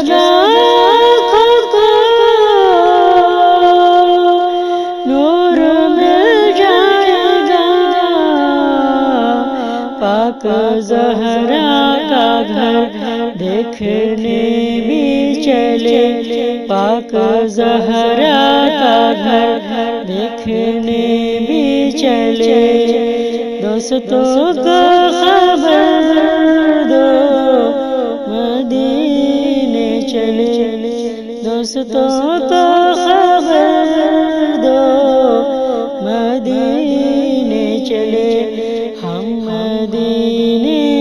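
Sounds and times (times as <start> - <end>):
woman singing devotional song: 0.0 - 41.0.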